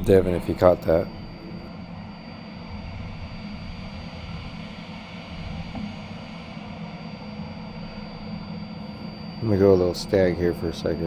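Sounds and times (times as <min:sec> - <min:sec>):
machinery humming and whining: 0:00.0 - 0:11.0.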